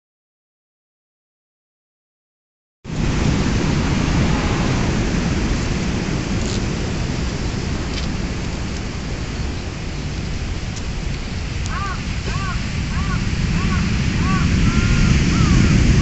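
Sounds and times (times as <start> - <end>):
high surf: 2.9 - 16.0
strong wind on microphone: 2.9 - 16.0.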